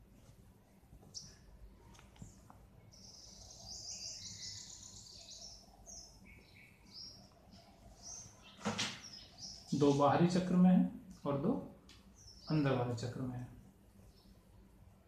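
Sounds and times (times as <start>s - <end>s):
birds chirping: 1.0s - 14.7s.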